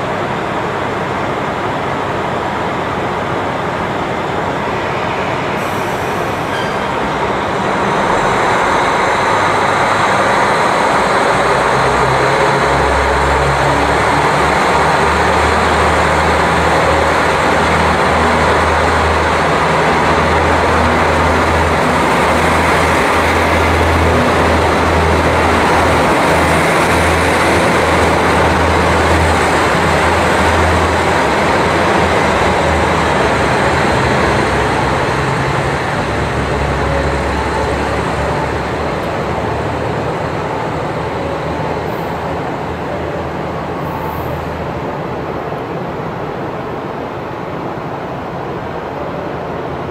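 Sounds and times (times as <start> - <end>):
diesel train engine accelerating: 0.0 - 49.9.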